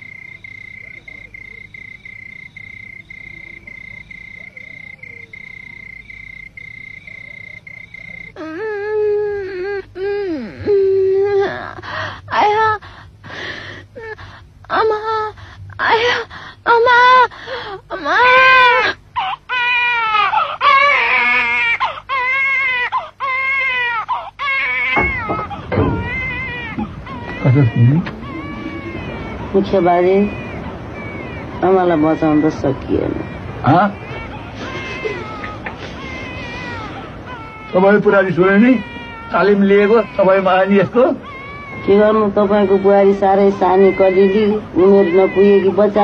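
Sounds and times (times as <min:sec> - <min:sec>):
cricket trilling: 0:00.0 - 0:14.3, 0:16.9 - 0:46.0
newborn baby crying: 0:00.0 - 0:46.0.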